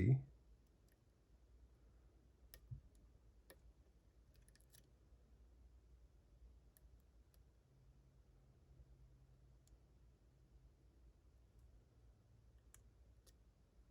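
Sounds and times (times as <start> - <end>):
faint low hum: 0.0 - 13.9.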